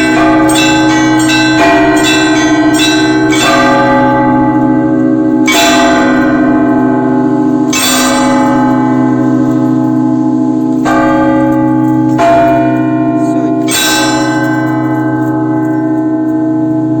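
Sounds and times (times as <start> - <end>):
church bells ringing: 0.0 - 17.0
lingering hum of large bells: 0.0 - 17.0.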